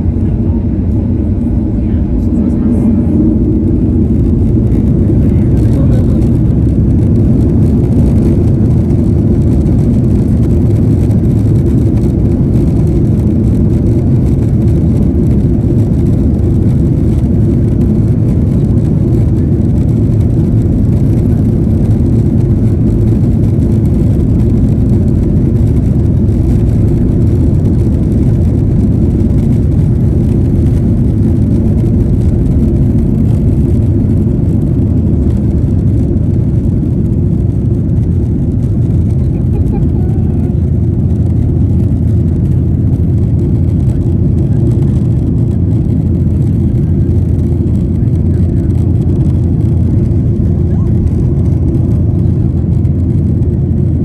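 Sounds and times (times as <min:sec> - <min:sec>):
vehicle rumbling from inside: 0:00.0 - 0:54.0.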